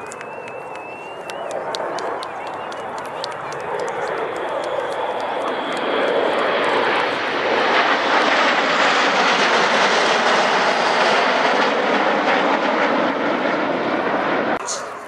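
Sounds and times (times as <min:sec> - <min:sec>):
jets passing overhead: 0:00.0 - 0:15.0.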